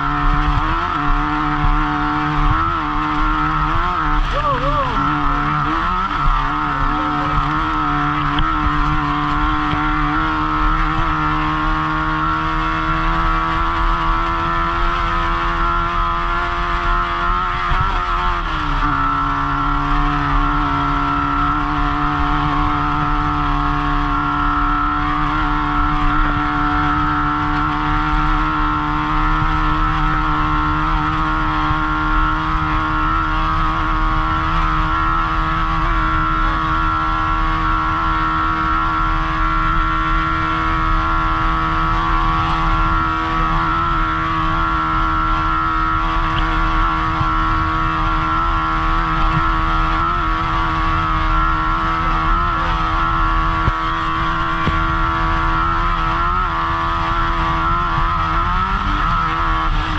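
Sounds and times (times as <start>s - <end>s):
race car engine revving high: 0.0s - 59.9s
road and wind noise: 0.0s - 59.9s.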